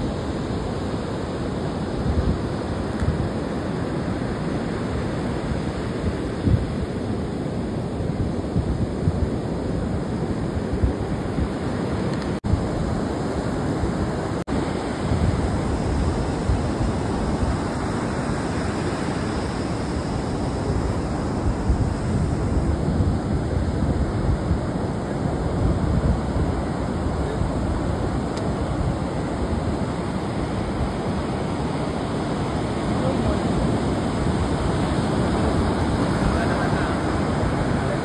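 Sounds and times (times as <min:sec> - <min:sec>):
sea surf washing onto beach: 0:00.0 - 0:38.0
wind buffeting microphone: 0:00.0 - 0:38.0.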